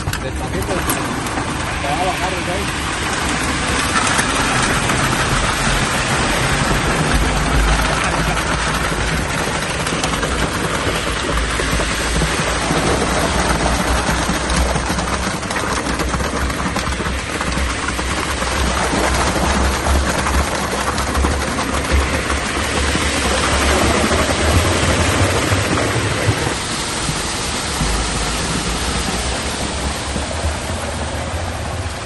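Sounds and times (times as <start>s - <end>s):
wet concrete pouring: 0.0s - 32.0s.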